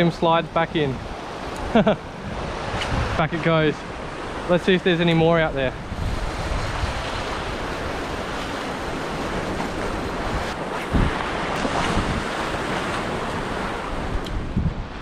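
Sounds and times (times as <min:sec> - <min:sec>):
waves washing over rocks: 0:00.0 - 0:15.0
wind buffeting microphone: 0:00.9 - 0:04.5, 0:05.3 - 0:15.0.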